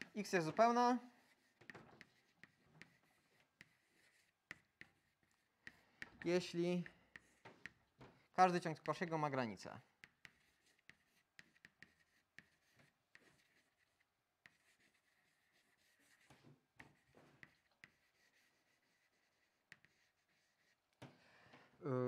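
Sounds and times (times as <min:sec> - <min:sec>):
chalk writing on chalkboard: 0:00.0 - 0:20.8.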